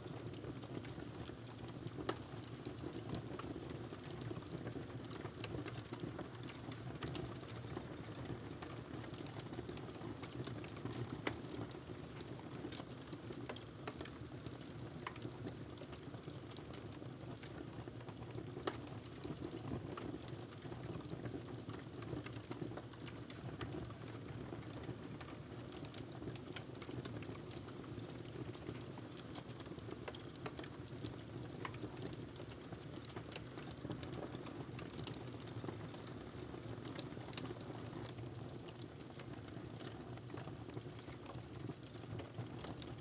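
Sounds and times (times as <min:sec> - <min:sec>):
wood fire crackling: 0:00.4 - 0:43.0.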